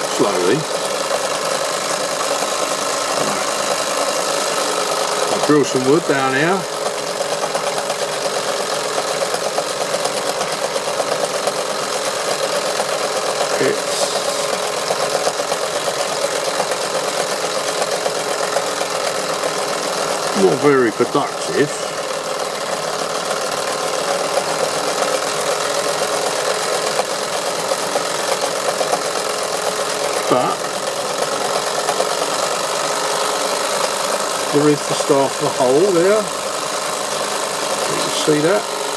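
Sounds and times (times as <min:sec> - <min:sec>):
model drill boring into wood: 0:00.0 - 0:38.9
toy steam engine mechanical clatter: 0:00.0 - 0:38.9.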